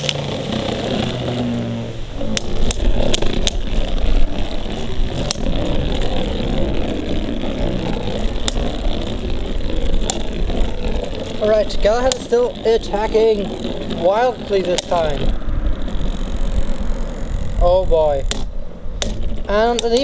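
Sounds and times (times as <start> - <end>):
spinning tops whirring: 0.0 - 20.0
wind rumble on microphone: 0.0 - 20.0.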